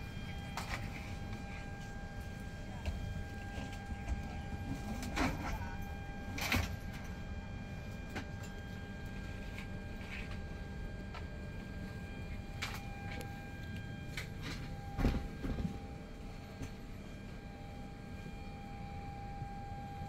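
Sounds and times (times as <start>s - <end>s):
airliner cabin hum: 0.0s - 20.0s.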